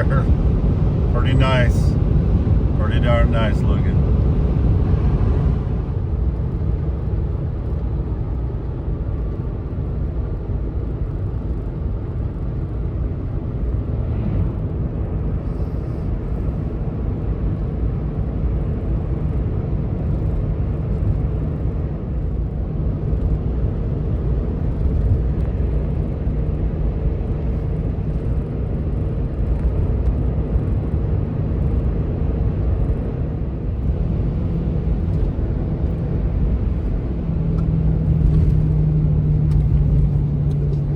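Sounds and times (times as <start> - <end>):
pickup truck engine and road noise: 0.0 - 40.9.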